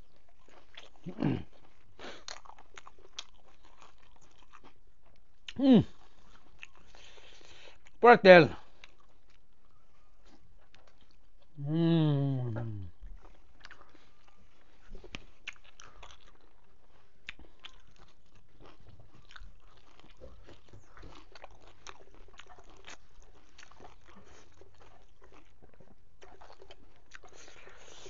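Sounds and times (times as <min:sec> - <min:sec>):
person chewing and crunching: 0:00.0 - 0:28.0.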